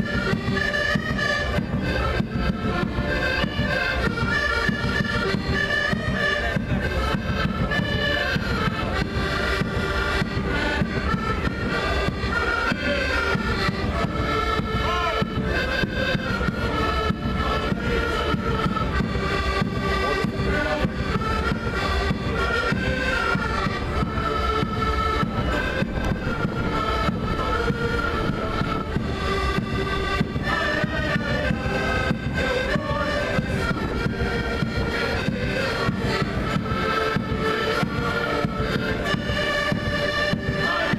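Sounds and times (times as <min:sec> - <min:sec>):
folk ensemble playing: 0:00.0 - 0:40.9
reedy melody instruments: 0:00.0 - 0:40.9
steady beat: 0:00.0 - 0:40.9.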